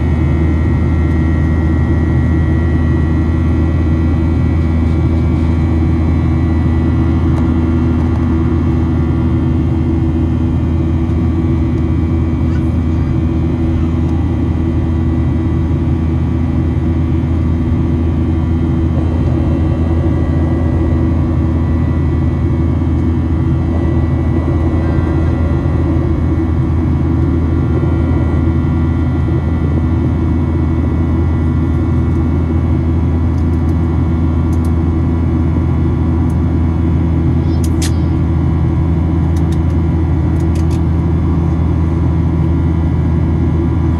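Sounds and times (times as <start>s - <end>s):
airplane cabin drone: 0.0s - 43.9s.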